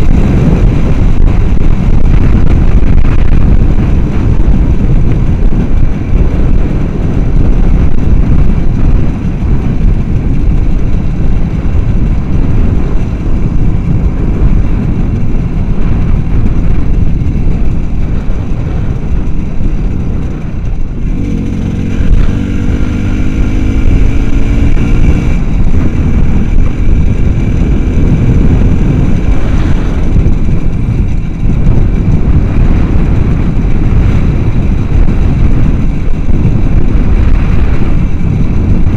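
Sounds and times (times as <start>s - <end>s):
small motorcycle engine: 0.0s - 38.9s
wind rumble on microphone: 0.0s - 38.9s.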